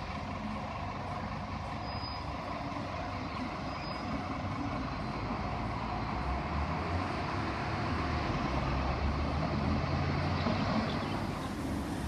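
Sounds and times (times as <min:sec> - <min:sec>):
street noise: 0:00.0 - 0:12.0
vehicle engine running low: 0:00.0 - 0:12.0.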